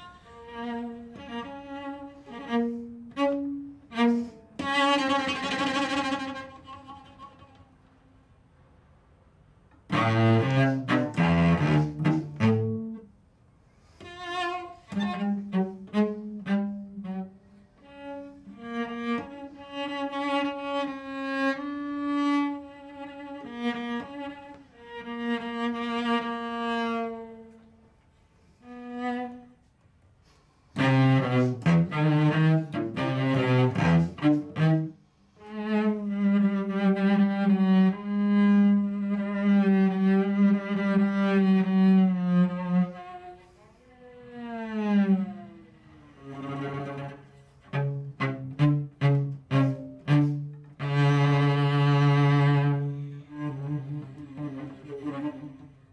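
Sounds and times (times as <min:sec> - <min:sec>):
bowed cello: 0:00.0 - 0:55.9.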